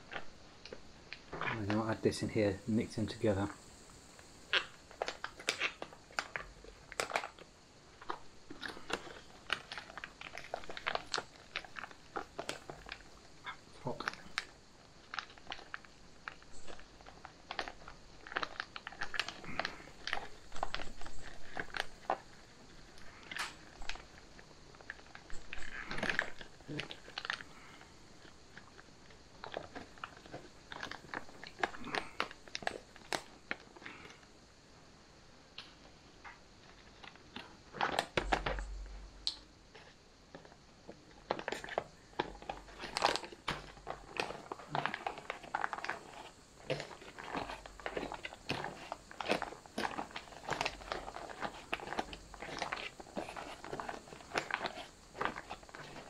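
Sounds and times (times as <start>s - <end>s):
packaging crinkling and crackling: 0.0s - 34.3s, 36.6s - 56.0s.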